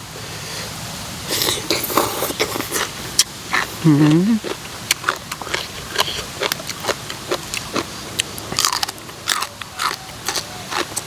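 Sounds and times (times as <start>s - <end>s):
chewing with wet smacks and crunches: 1.3s - 11.0s.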